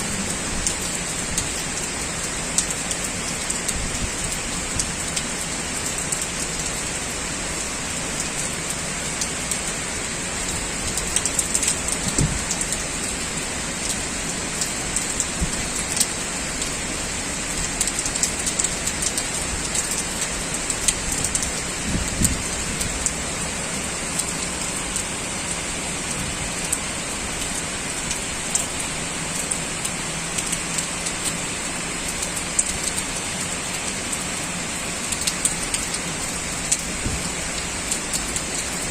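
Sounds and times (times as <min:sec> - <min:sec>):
heavy rain falling: 0:00.0 - 0:38.9
raindrops splashing on surfaces: 0:00.0 - 0:38.9.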